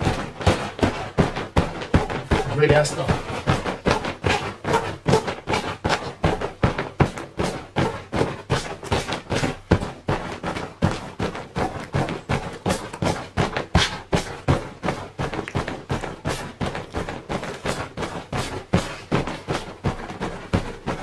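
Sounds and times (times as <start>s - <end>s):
hand thumping inflated mat: 0.0s - 21.0s.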